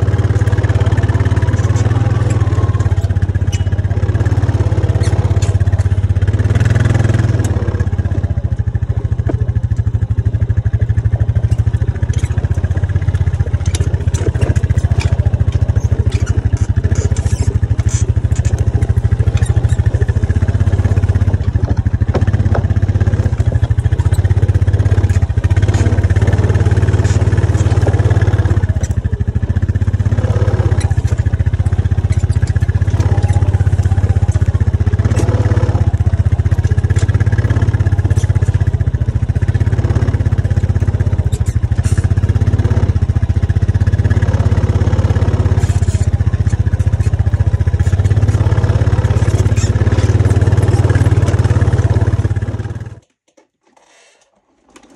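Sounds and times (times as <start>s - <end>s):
small engine running: 0.0s - 53.1s
cart load clicking and knocking: 0.0s - 53.8s.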